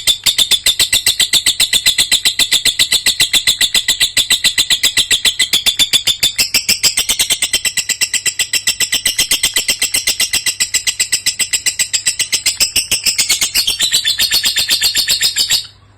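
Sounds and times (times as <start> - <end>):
lovebird chirping: 0.0 - 15.9.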